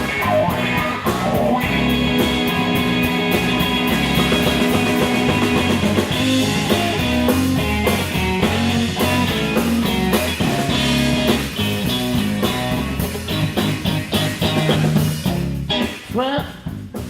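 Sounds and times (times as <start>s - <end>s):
electric guitar: 0.0s - 16.7s
bass guitar: 0.0s - 17.0s
drum kit: 0.0s - 17.0s.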